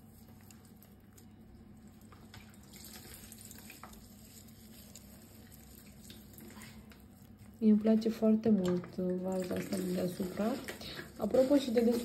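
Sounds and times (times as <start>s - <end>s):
shredded cabbage patters: 0.0s - 8.4s, 9.3s - 12.0s
low steady hum: 0.0s - 12.0s.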